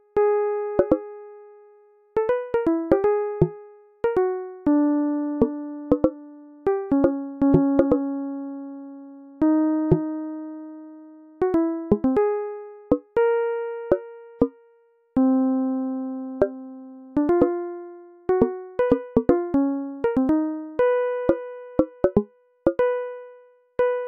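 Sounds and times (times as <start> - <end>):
slow keyboard melody: 0.0 - 24.0.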